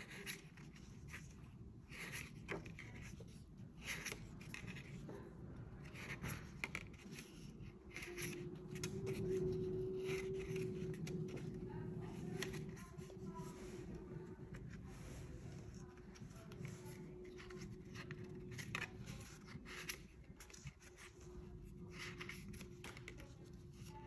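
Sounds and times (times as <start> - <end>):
faint steady hum: 0.0 - 24.0
scratching on paper: 0.0 - 24.0.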